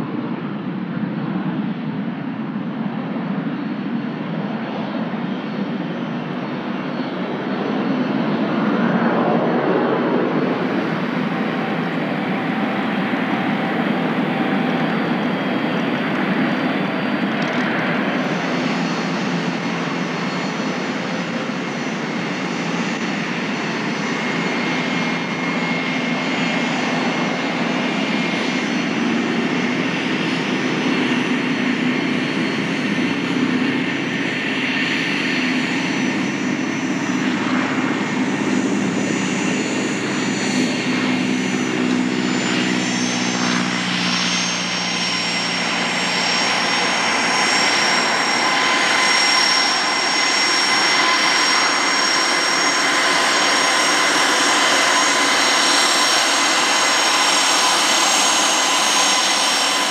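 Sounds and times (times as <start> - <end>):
propeller plane engine drone: 0.0 - 59.9
steady higher whine: 4.8 - 59.9.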